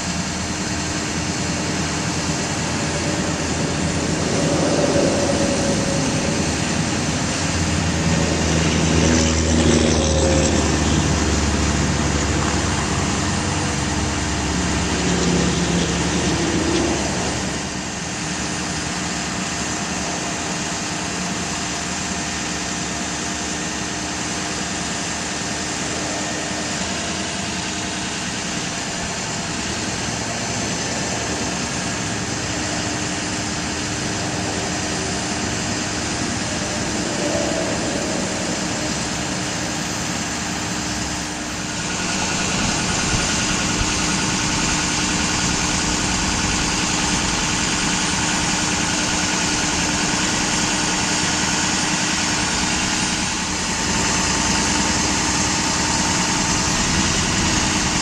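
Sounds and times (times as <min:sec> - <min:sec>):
truck engine and hydraulics: 0:00.0 - 0:58.0.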